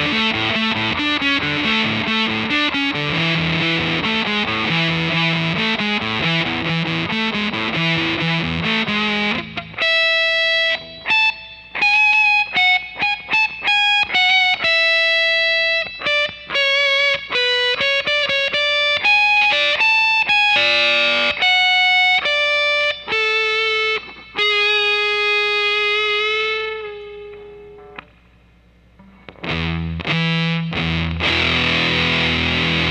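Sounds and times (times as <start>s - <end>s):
fuzzed electric guitar: 0.0s - 32.9s.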